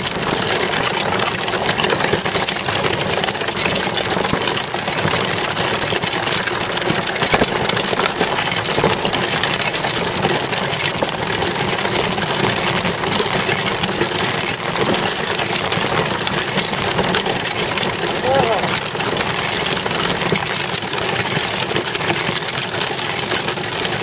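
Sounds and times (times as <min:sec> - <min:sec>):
bicycle rattling over asphalt: 0:00.0 - 0:24.0.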